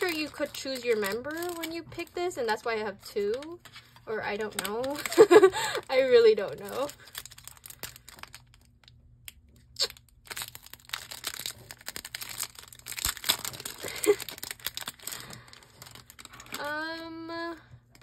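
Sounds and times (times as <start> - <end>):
plastic packaging crinkling and tearing: 0.0 - 18.0.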